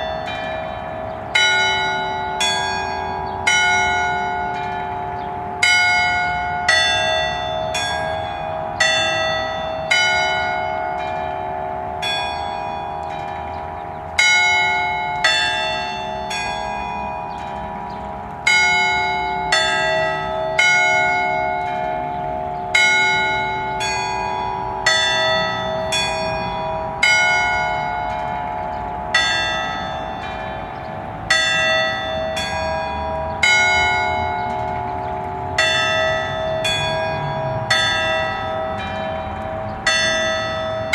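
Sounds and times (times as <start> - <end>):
bells humming: 0.0 - 40.9
church bells ringing: 0.0 - 40.9.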